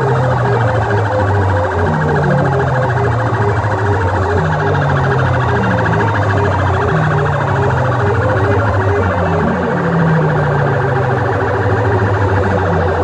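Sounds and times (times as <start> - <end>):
siren-like electronic music: 0.0 - 13.0.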